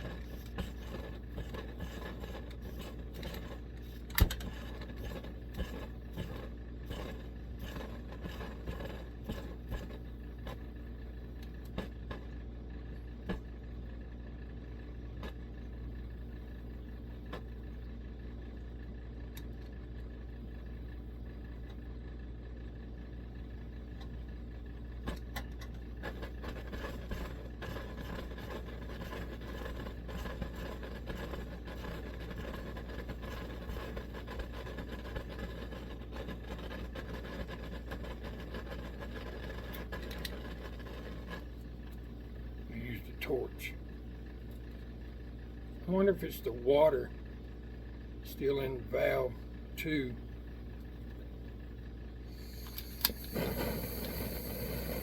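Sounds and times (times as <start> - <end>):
stove burner roaring: 0.0 - 21.9, 23.4 - 55.0.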